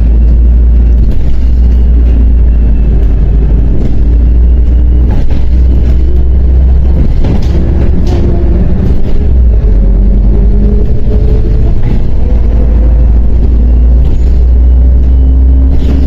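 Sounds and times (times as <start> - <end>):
bus engine drone: 0.0 - 16.0
road rumble: 0.0 - 16.0.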